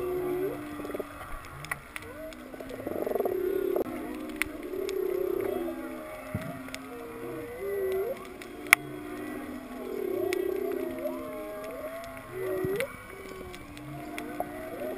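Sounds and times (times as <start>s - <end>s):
sharp reef clicks: 0.0s - 14.9s
whale song moans and whoops: 0.0s - 14.9s.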